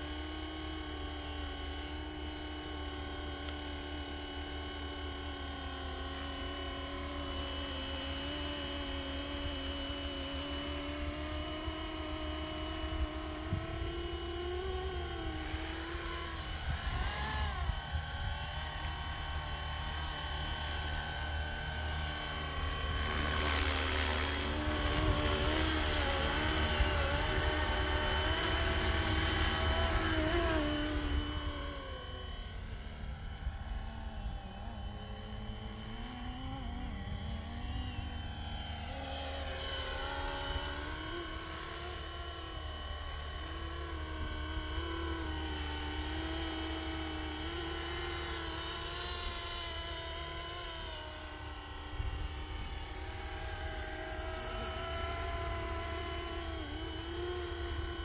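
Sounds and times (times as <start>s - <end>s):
rc helicopter rotor whine: 0.0s - 58.0s.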